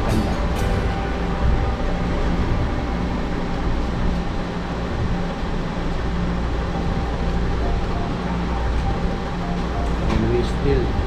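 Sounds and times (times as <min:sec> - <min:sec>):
room noise rumble and hiss: 0:00.0 - 0:11.0.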